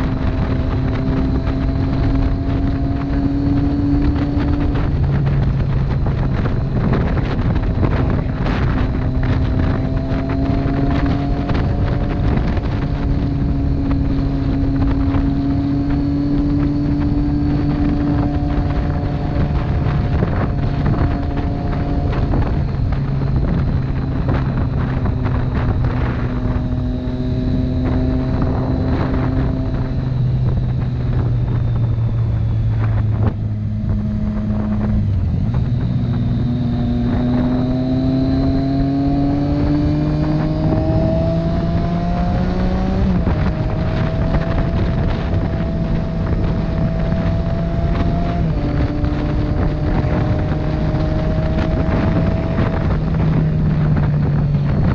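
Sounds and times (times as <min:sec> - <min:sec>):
motorcycle engine shifting gears: 0:00.0 - 0:54.9
wind on microphone: 0:00.0 - 0:54.9.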